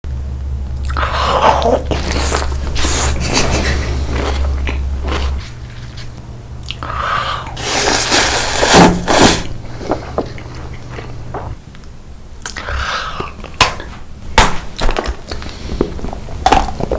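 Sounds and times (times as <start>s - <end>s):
person biting and chewing food: 0.7s - 16.9s.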